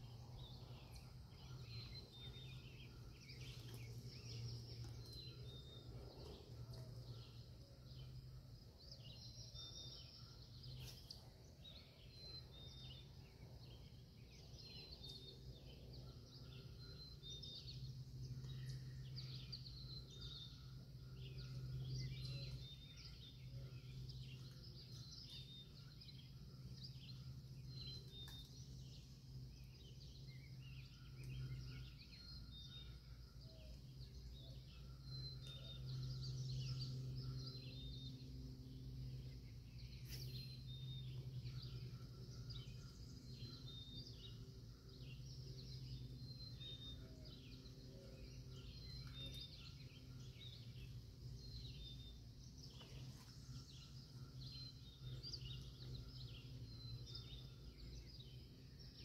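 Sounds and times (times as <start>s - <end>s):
faint low hum: 0.0s - 59.0s
small birds chirping: 0.0s - 59.0s.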